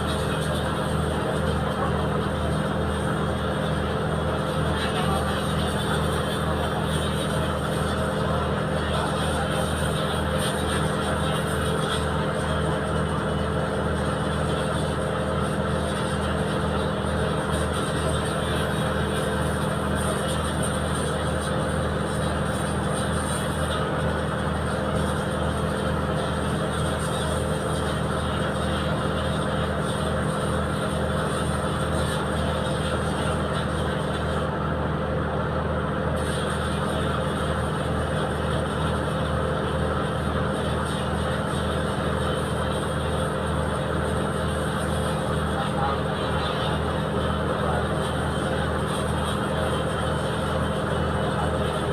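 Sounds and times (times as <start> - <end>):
boat diesel engine droning: 0.0 - 51.9.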